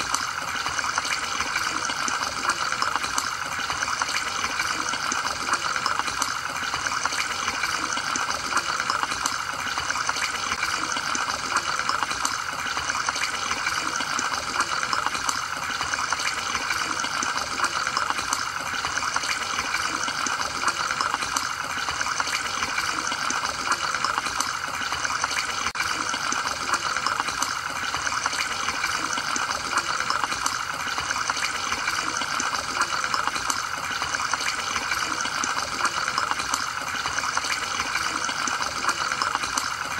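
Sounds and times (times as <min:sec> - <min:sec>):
aquarium filter bubbling: 0:00.0 - 0:39.9.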